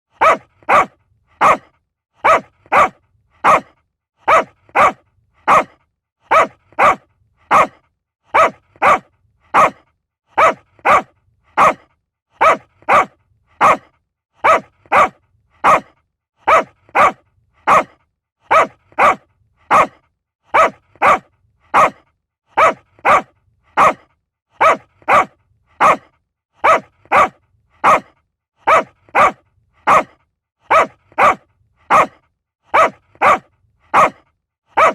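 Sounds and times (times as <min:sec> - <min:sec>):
small dog barking: 0:00.2 - 0:34.9.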